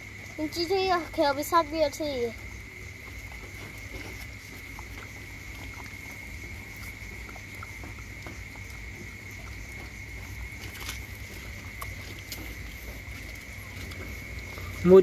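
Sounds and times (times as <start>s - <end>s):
dog chewing and lapping: 3.0s - 15.0s.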